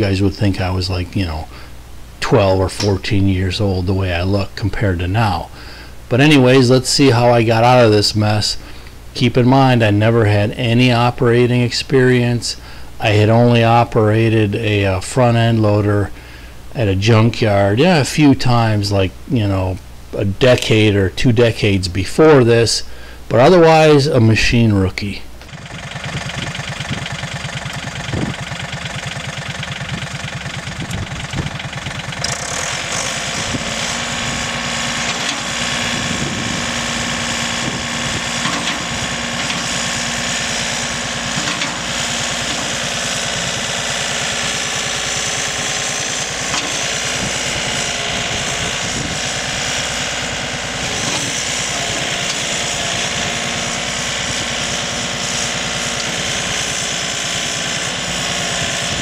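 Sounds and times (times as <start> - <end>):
tractor diesel engine running: 0.0 - 19.0, 25.3 - 59.0.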